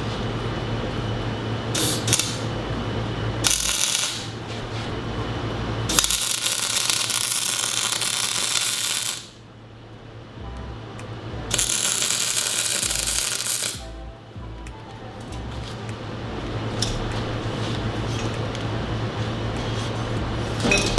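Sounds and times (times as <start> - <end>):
arc welding crackling: 0.0 - 10.1, 11.0 - 20.8
steady electrical hum: 0.0 - 20.9.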